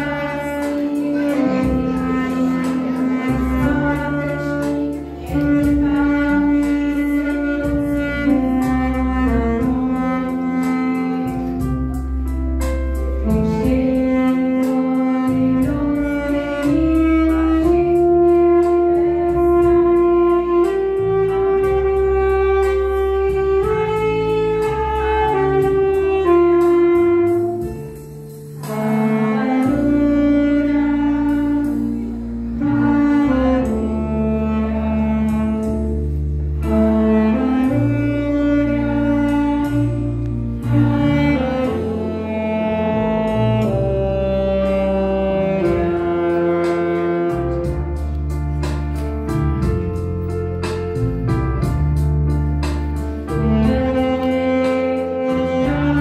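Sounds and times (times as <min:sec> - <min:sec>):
electronic keyboard chords and bass: 0:00.0 - 0:56.0
saxophone slow melody: 0:00.0 - 0:56.0.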